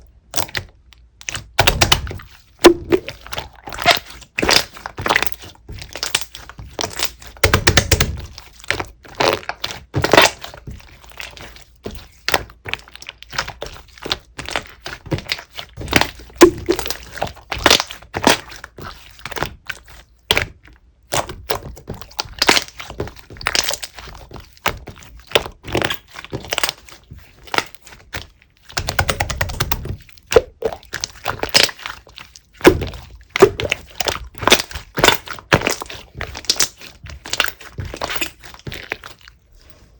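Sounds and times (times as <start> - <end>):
slime clicking and popping: 0.3 - 10.7, 11.3 - 39.2.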